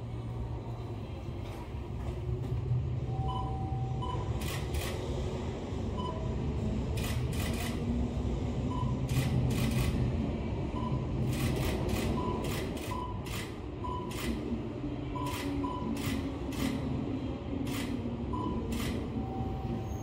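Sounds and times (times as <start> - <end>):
train passing low rumble: 0.0 - 20.0.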